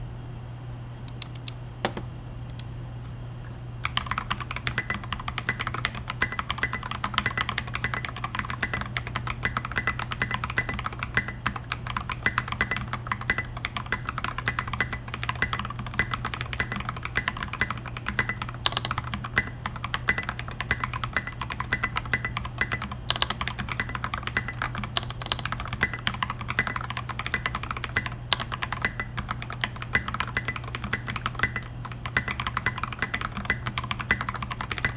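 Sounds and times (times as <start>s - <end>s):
mechanical keyboard typing: 3.8s - 34.9s.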